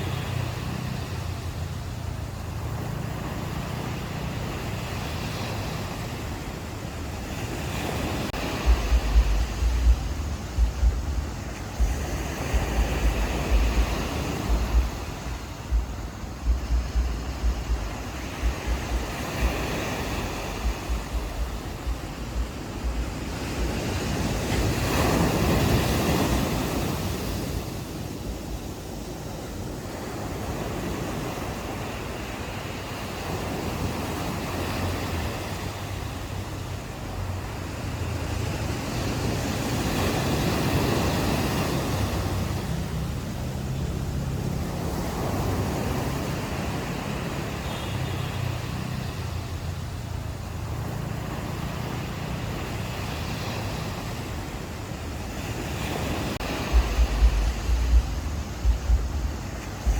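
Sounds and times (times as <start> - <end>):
ocean surf washing on beach: 0.0 - 59.9
wind buffeting microphone: 0.0 - 59.9.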